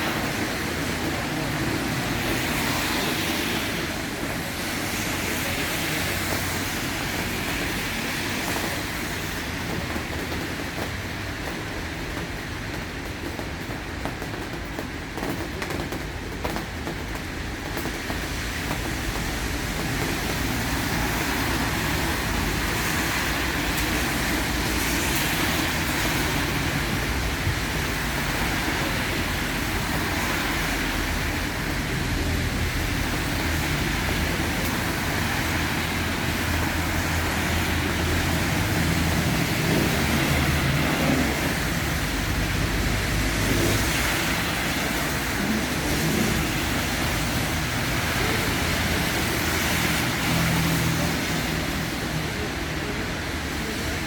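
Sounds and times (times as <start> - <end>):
road hiss: 0.0 - 54.0.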